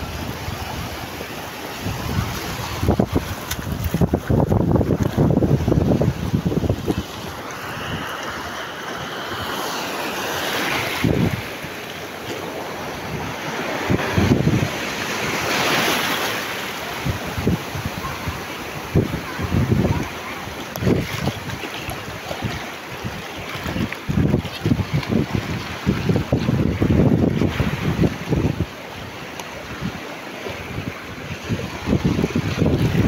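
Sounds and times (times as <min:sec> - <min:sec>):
wind buffeting microphone: 0:00.0 - 0:08.4, 0:10.8 - 0:11.8, 0:12.6 - 0:16.2, 0:16.9 - 0:33.0
surf breaking on rocks: 0:00.0 - 0:33.0.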